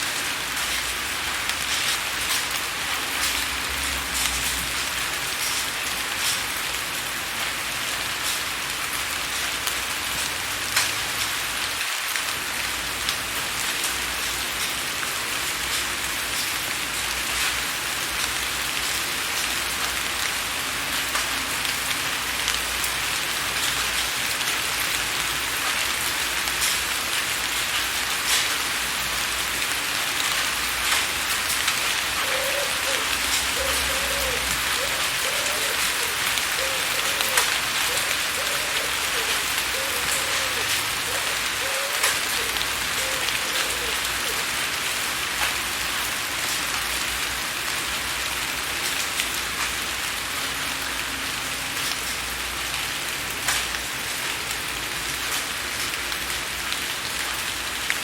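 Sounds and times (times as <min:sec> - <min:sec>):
rain on a window pane: 0:00.0 - 0:58.0.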